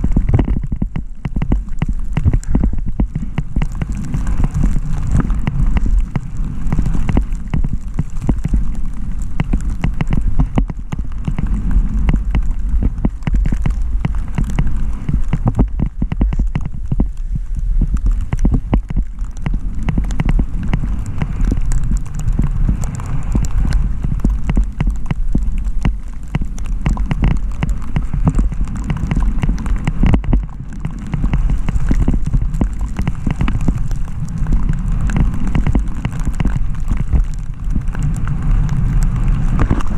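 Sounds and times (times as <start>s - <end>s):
skis knocking on rocks: 0.0s - 39.9s
skis scraping over snow: 0.0s - 39.9s
wind on microphone: 0.0s - 39.9s.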